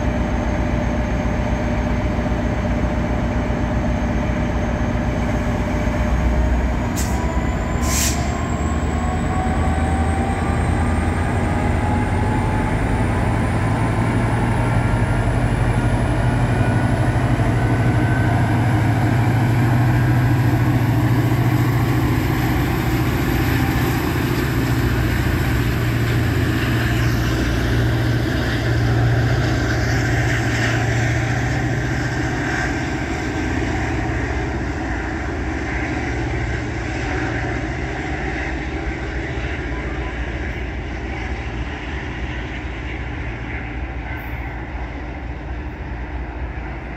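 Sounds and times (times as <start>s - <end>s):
diesel locomotive drone and whine: 0.0s - 46.9s.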